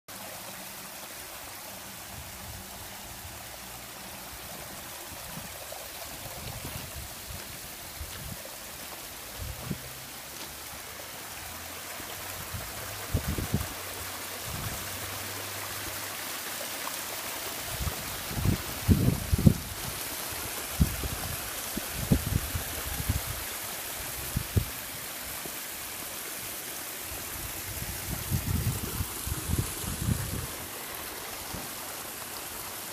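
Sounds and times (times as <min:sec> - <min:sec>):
waterfall splashing: 0:00.1 - 0:32.9.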